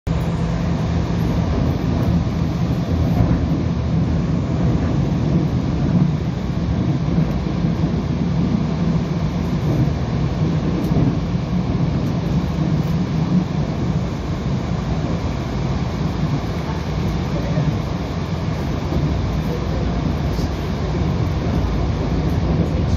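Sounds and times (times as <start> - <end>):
train wheels rumbling on rails: 0.1 - 22.9.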